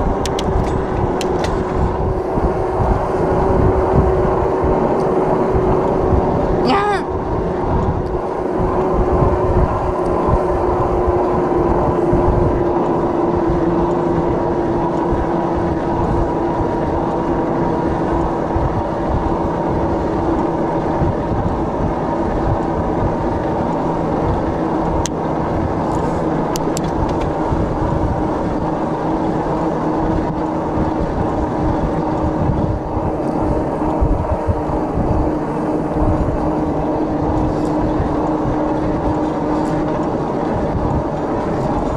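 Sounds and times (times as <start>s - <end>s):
electric bike motor whine: 0.0s - 41.9s
wind buffeting microphone: 0.0s - 41.9s.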